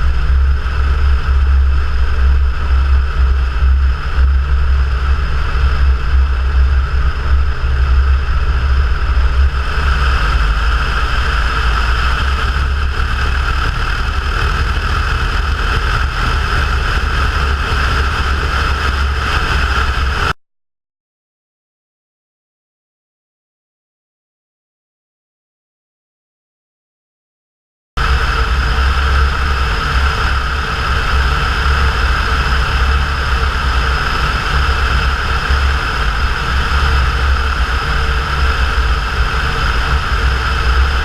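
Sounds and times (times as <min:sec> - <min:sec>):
propeller plane engine droning: 0:00.0 - 0:20.4, 0:28.0 - 0:41.0.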